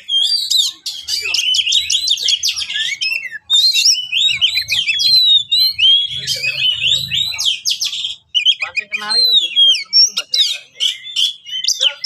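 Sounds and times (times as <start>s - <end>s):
bird singing: 0.0s - 12.0s.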